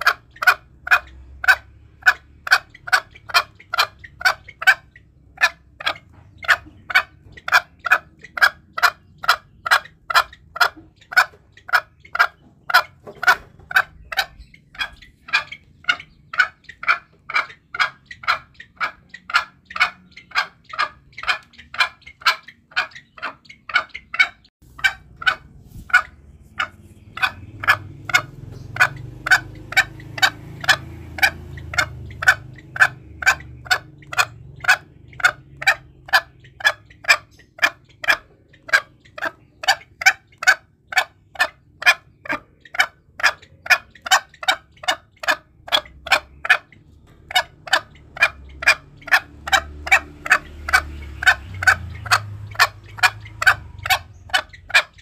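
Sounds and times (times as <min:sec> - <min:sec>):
junglefowl clucking calls: 0:00.0 - 0:55.0.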